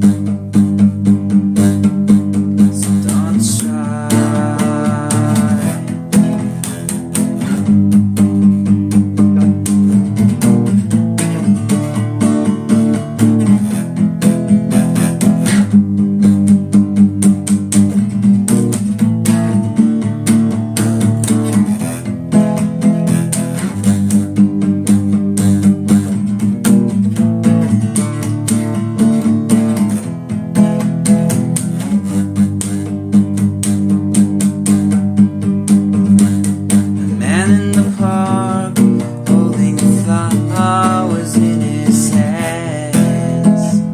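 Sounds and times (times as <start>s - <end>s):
guitar strummed: 0.0s - 43.9s.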